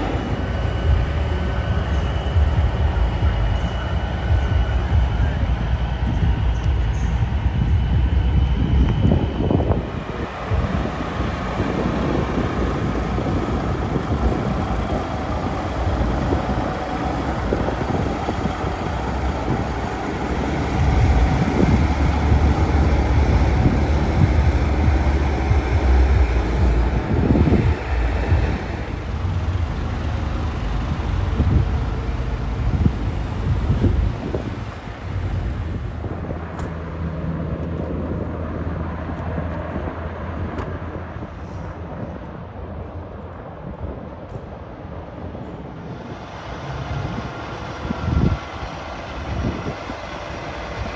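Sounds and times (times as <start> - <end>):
heavy truck rumbling: 0.0 - 50.9.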